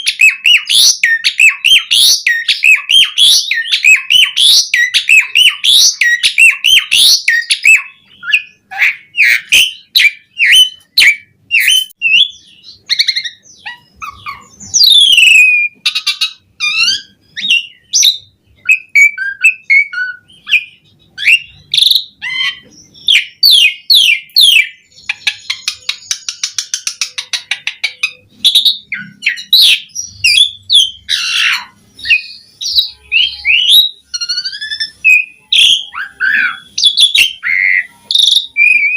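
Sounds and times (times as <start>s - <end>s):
starling singing varied song: 0.0s - 38.9s.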